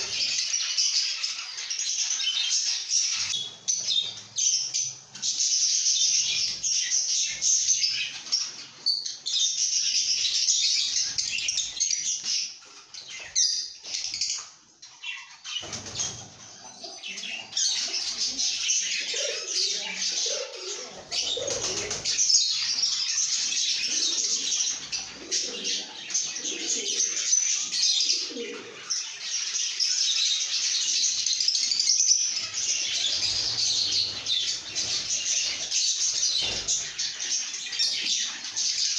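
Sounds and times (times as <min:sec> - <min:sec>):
birds chattering and chirping: 0:00.0 - 0:38.9.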